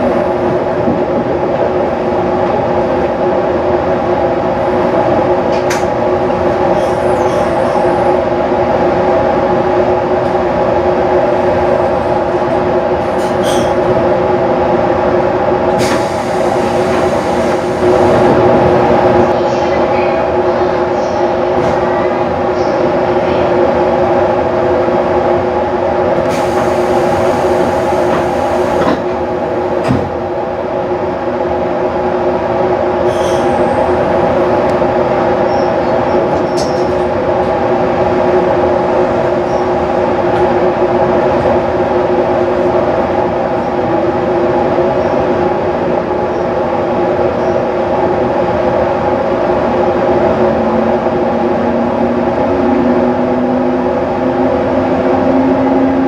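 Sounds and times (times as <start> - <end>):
train equipment humming: 0.0 - 56.0.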